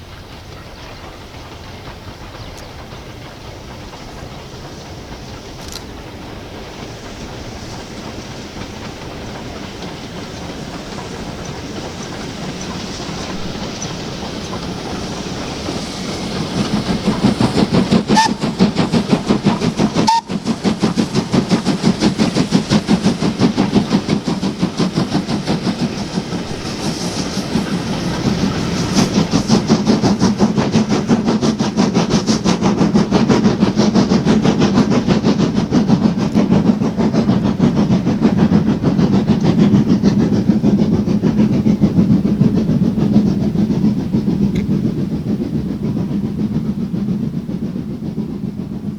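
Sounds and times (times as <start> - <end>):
steam locomotive passing: 0.0 - 48.9.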